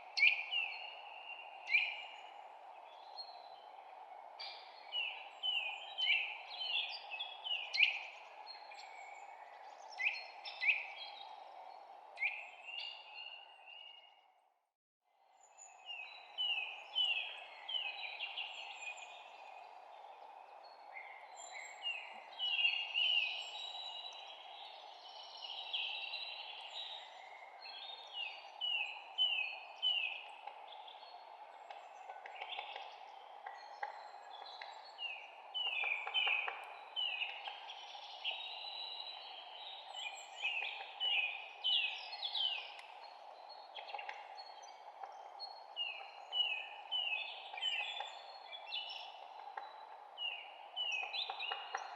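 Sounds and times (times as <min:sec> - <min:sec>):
songbirds chirping: 0:00.0 - 0:14.5, 0:15.1 - 0:51.9.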